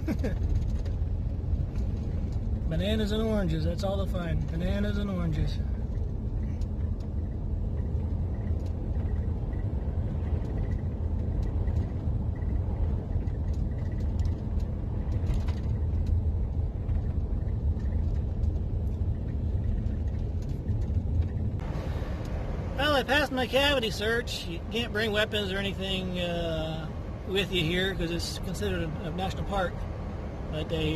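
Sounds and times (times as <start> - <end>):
van engine rumble: 0.0 - 30.9.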